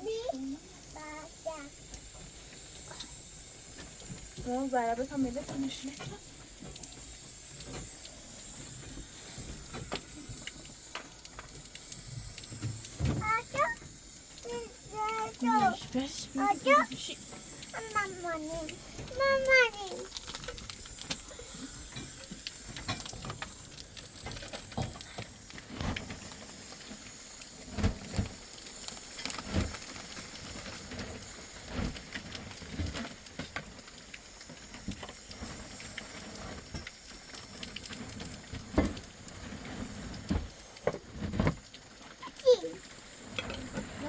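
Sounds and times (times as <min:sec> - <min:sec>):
faint steady hiss: 0:00.0 - 0:44.0
rain dripping and pattering: 0:00.0 - 0:44.0.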